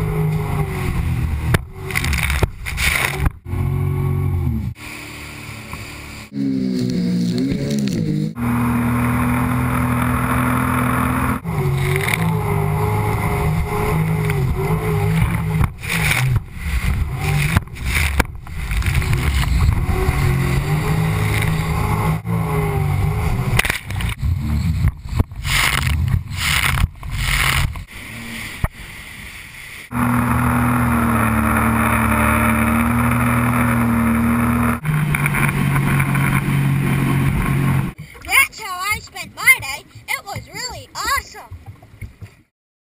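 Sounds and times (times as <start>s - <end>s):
jet ski engine: 0.0s - 42.3s
water splashing over hull: 0.0s - 42.5s.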